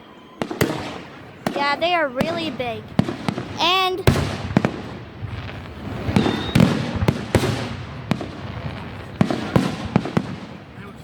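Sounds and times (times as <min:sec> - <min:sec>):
fireworks bangs: 0:00.0 - 0:11.0
rumbling haze: 0:00.7 - 0:11.0.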